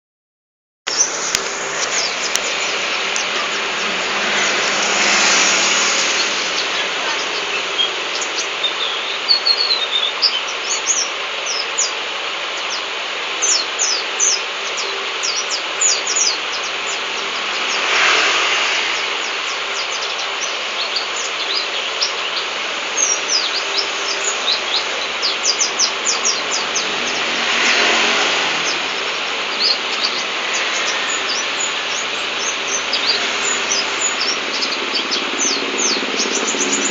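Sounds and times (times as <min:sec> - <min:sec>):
passing vehicles: 0:00.9 - 0:09.4, 0:14.2 - 0:36.9
bird chirping high and thin: 0:00.9 - 0:12.0, 0:12.6 - 0:36.9.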